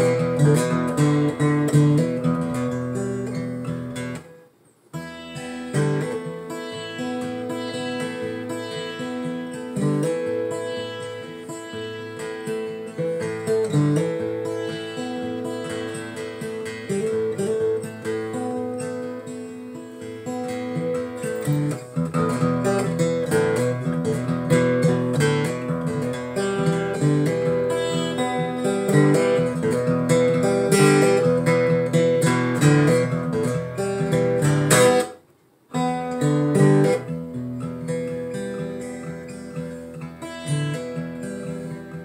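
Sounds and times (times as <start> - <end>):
acoustic guitar fingerpicked: 0.0 - 42.0.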